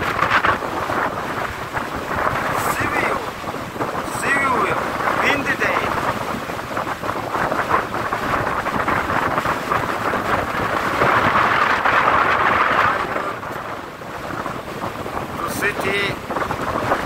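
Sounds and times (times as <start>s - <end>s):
rough sea: 0.0s - 17.0s
strong wind gusting over microphone: 0.0s - 17.0s.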